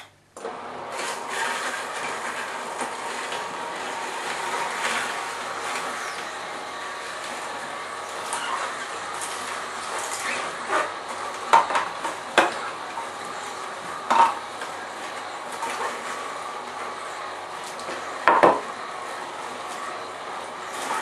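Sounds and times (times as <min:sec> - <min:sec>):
juicer humming: 0:00.4 - 0:21.0.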